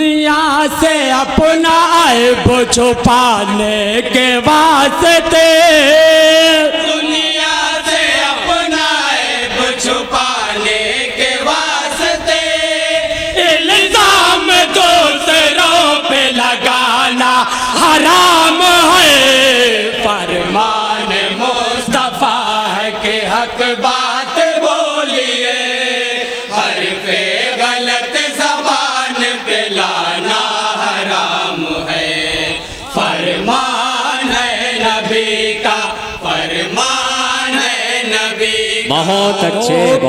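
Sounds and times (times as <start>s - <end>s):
men chanting in unison: 0.0s - 40.0s.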